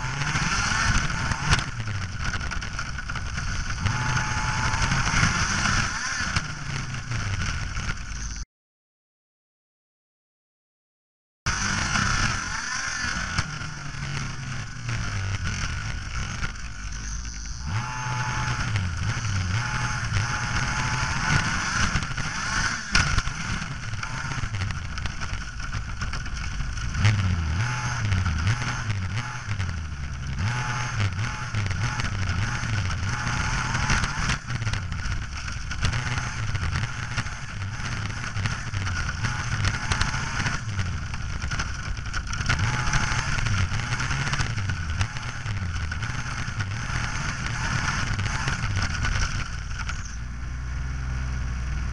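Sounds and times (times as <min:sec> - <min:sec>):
model car engine revving: 0:00.0 - 0:08.4, 0:11.5 - 0:51.9.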